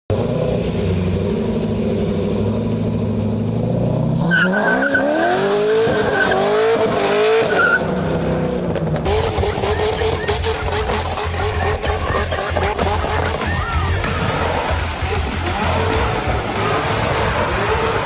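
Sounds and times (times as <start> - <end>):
car engine revving: 0.1 - 18.0.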